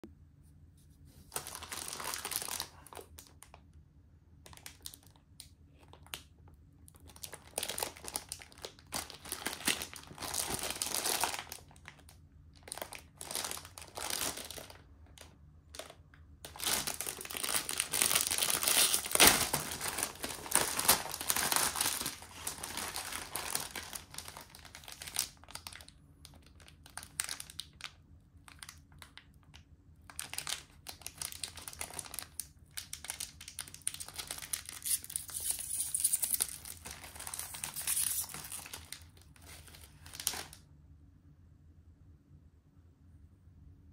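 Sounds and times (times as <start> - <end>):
plastic wrapping crinkling: 1.3 - 3.6, 4.4 - 40.6.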